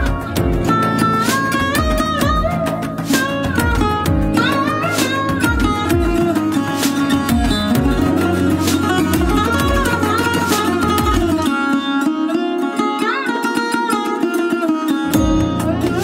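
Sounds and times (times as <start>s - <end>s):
music with melody and beat: 0.0s - 16.0s.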